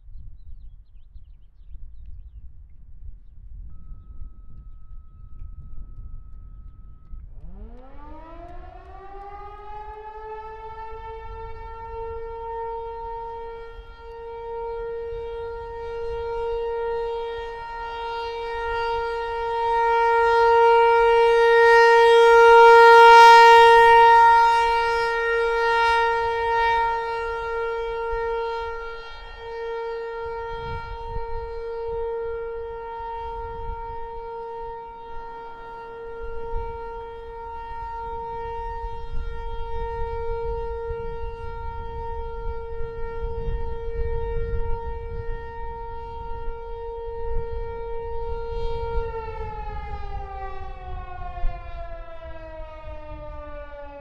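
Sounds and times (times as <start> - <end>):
warning siren steady tone: 0.0 - 54.0
wind rumble on microphone: 0.0 - 54.0.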